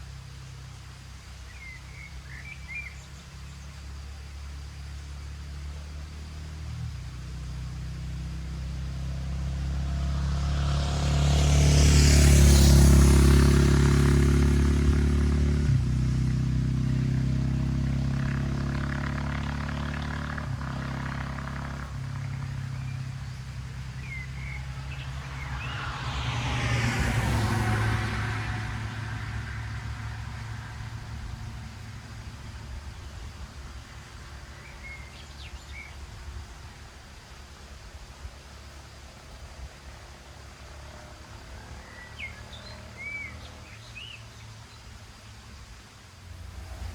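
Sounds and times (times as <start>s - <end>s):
motorcycle riding past: 6.4s - 46.9s.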